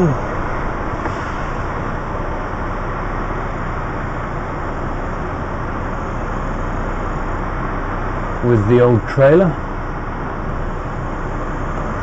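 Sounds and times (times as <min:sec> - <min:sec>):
diesel engine running at low revs: 0:00.0 - 0:12.0.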